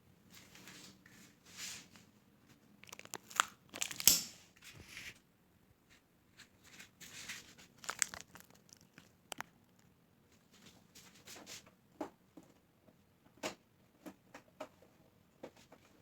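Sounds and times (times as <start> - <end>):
crinkling and rustling handling: 0.2 - 5.2, 5.8 - 16.0.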